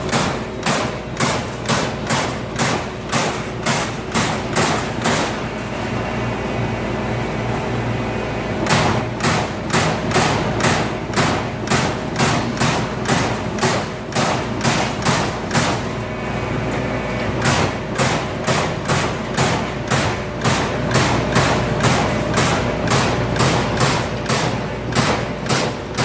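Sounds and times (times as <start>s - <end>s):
punch press hitting sheet metal: 0.0s - 5.5s, 8.6s - 16.0s, 17.2s - 26.0s
steady machine hum: 0.0s - 26.0s.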